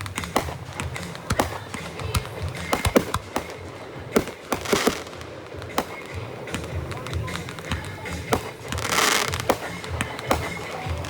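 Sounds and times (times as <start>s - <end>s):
fireworks bangs and booms: 0.0s - 11.0s
fireworks crackling: 0.0s - 11.0s.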